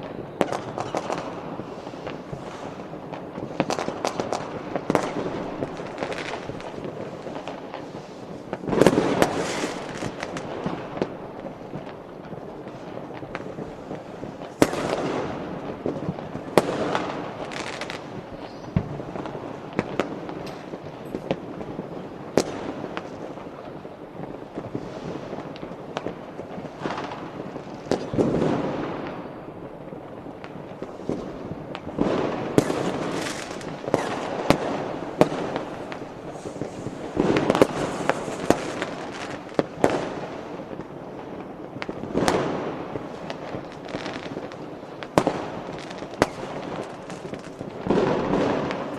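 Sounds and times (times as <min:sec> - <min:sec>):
fireworks banging: 0:00.0 - 0:48.9.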